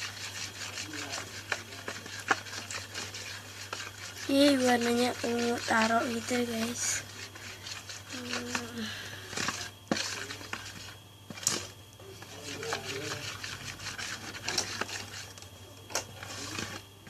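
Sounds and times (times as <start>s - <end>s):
utensil scraping slime in bowl: 0.0s - 16.8s.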